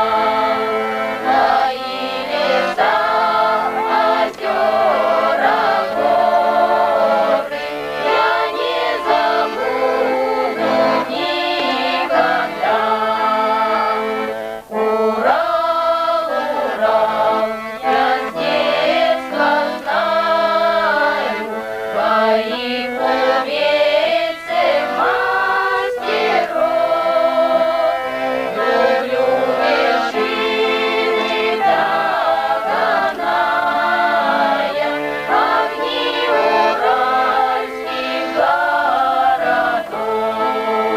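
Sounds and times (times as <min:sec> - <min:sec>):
choir singing with instruments: 0:00.0 - 0:40.9.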